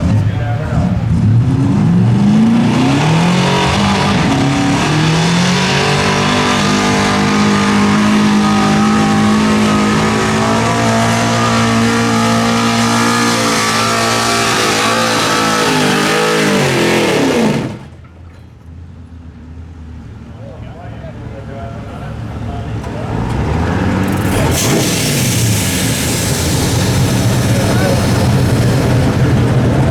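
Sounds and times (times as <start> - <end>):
truck engine at full throttle: 0.0 - 29.9.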